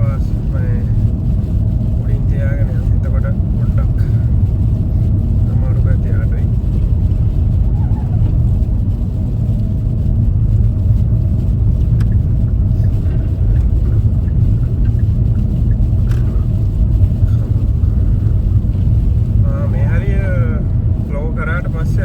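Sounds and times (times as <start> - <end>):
car driving through snow: 0.0 - 22.0.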